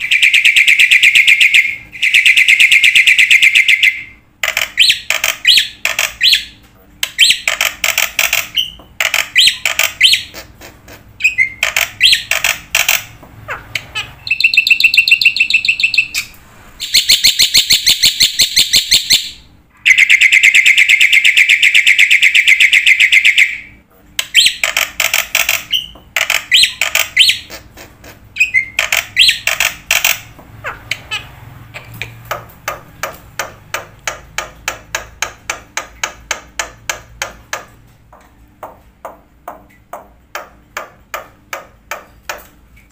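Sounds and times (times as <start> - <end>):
bird trills and calls: 0.0 - 36.7.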